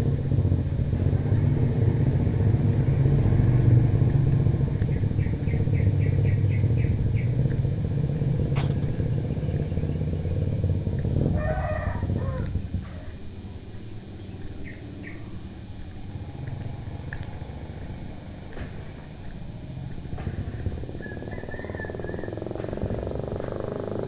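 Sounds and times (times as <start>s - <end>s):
motorcycle engine passing by: 0.0s - 24.0s.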